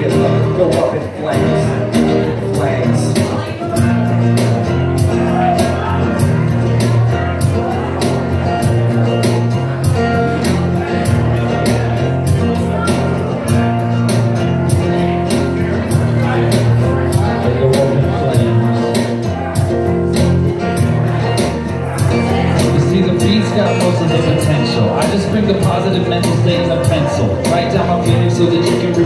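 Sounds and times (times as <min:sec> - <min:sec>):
electric guitar: 0:00.0 - 0:29.0
rap-rock band playing live: 0:00.0 - 0:29.0.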